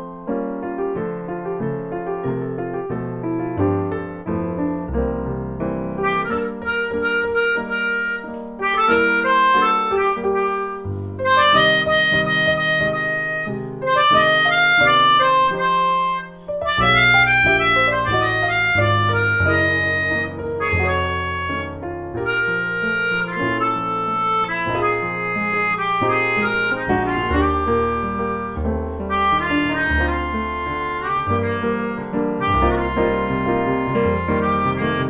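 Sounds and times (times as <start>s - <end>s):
digital piano accompaniment: 0.0s - 35.0s
melodica melody: 6.0s - 35.0s.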